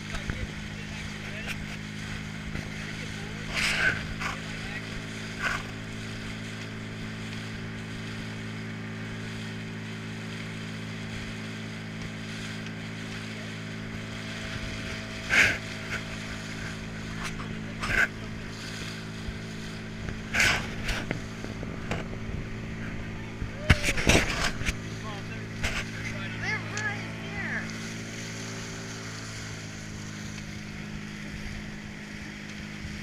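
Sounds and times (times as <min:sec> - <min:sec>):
boat engine idling: 0:00.0 - 0:33.0
dolphins splashing: 0:00.0 - 0:33.0.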